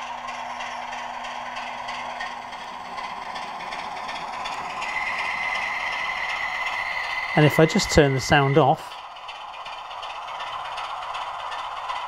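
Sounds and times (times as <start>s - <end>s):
diesel engine sound from small speaker: 0.0s - 12.0s
steady high whine: 0.0s - 12.0s.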